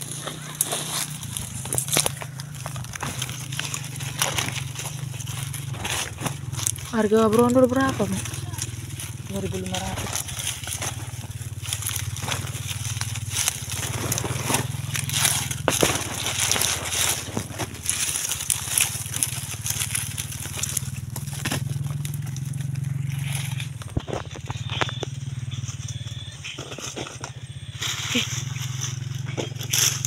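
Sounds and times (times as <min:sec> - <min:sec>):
dry leaves and twigs crunching: 0:00.0 - 0:30.0
steady low hum: 0:00.0 - 0:30.0.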